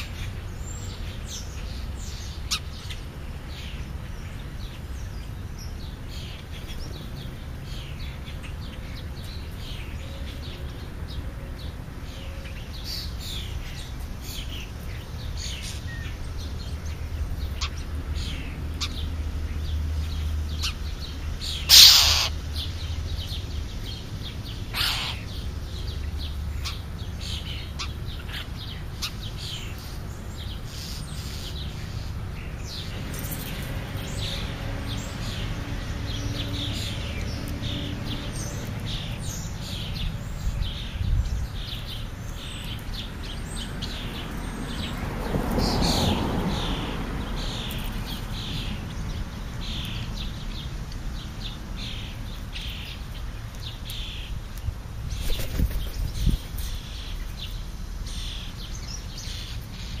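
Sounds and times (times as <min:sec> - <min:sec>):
bird chirps and calls: 0:00.0 - 1:00.0.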